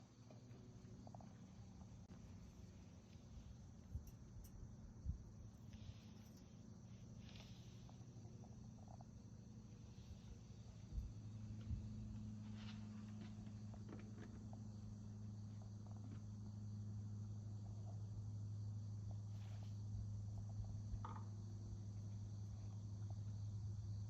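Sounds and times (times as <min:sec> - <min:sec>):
low hum: 0:00.0 - 0:24.0
insects chirring: 0:00.1 - 0:24.0.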